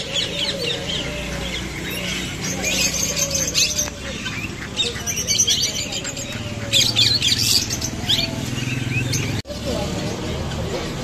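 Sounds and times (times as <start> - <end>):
parrots chirping: 0.0 - 11.0.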